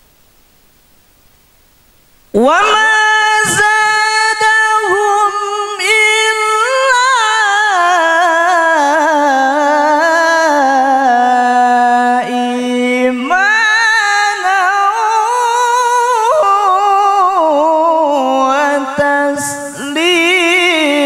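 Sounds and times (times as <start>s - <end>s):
man reciting melodically: 2.3s - 21.0s.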